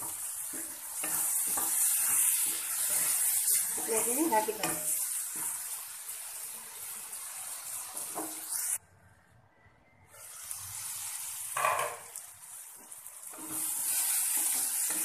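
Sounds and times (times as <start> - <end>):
food sizzling in oil: 0.0 - 8.8, 10.1 - 15.0.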